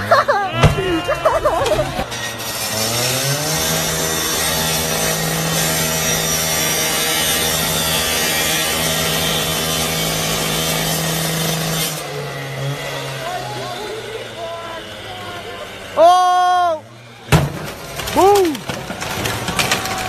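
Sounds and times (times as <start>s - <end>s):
angle grinder cutting metal: 0.0s - 17.2s.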